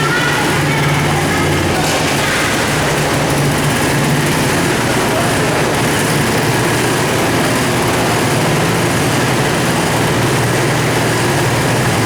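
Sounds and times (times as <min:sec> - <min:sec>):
two-stroke engine running: 0:00.0 - 0:12.0.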